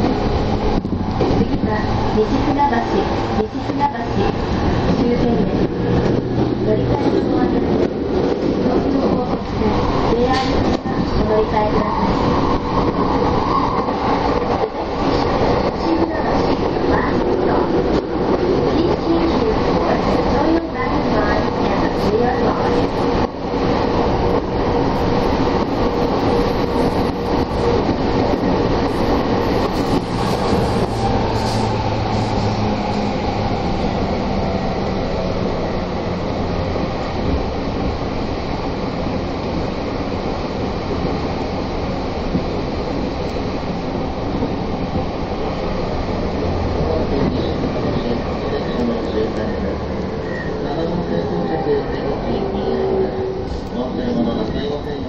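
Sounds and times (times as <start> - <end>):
rumble of wheels on rail: 0.0 - 55.0.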